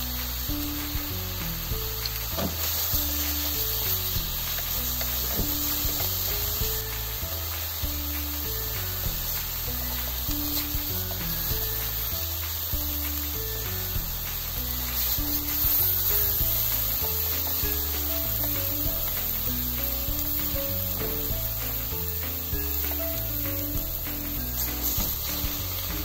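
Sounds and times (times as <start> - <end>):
meat sizzling in oil: 0.0 - 26.0
simple background tune: 0.0 - 26.0.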